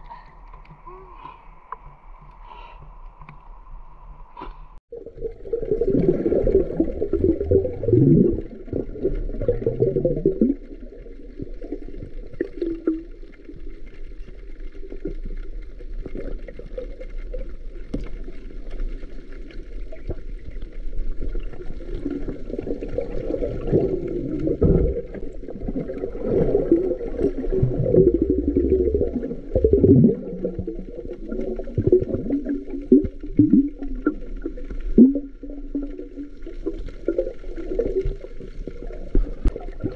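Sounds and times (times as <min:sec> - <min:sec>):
underwater water sloshing and gurgling: 0:00.0 - 0:39.9.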